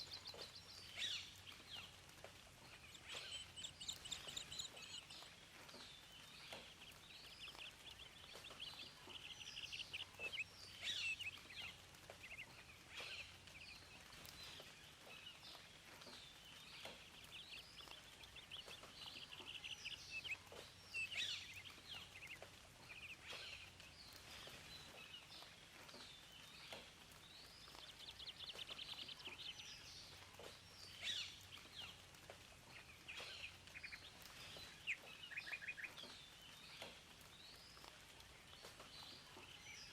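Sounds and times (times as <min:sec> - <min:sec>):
faint steady hiss: 0:00.0 - 0:39.9
small songbirds chirping: 0:00.0 - 0:39.9.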